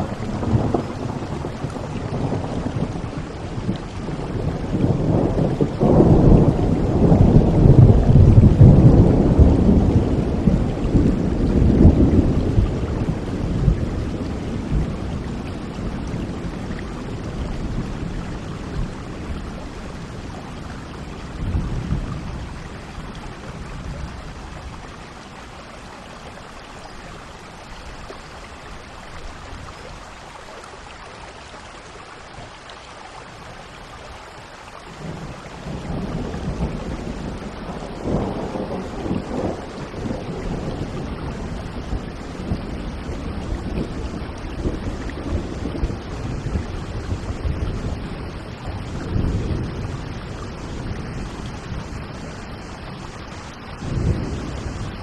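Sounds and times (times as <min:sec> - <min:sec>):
thunder rumbling: 0:00.0 - 0:24.9, 0:35.0 - 0:55.0
steady rain: 0:00.0 - 0:55.0.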